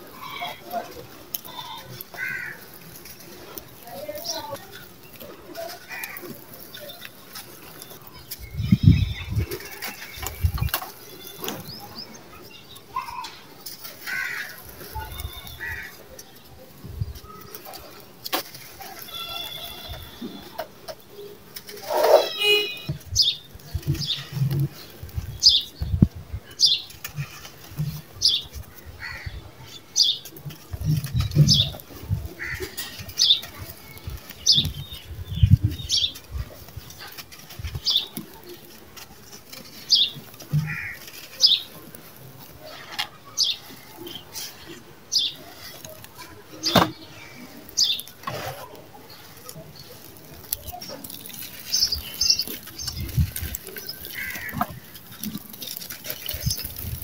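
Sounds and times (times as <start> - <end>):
dry lumps crunching by hand: 0.0 - 57.0.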